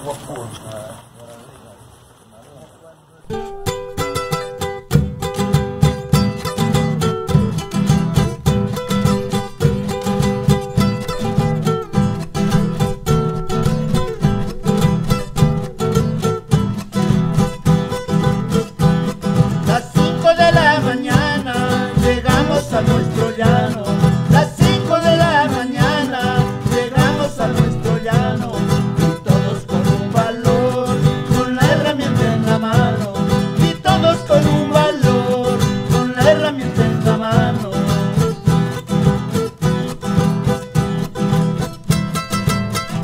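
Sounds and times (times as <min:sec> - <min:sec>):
acoustic guitars strummed: 0:03.2 - 0:43.0.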